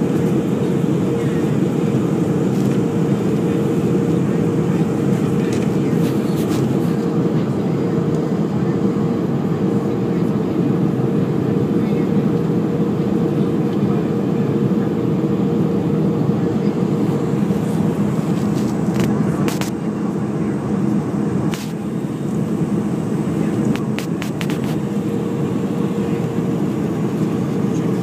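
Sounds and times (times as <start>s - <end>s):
airplane cabin drone: 0.0s - 28.0s
steady hum: 0.0s - 28.0s.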